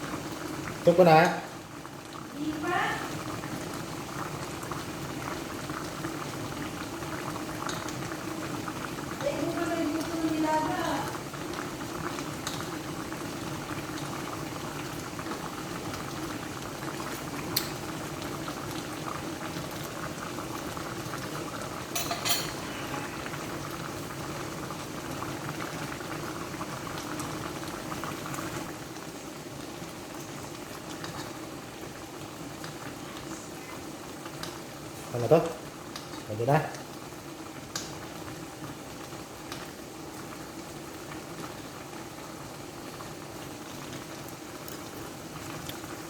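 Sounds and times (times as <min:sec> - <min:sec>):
pot bubbling on a simmer: 0:00.0 - 0:46.0.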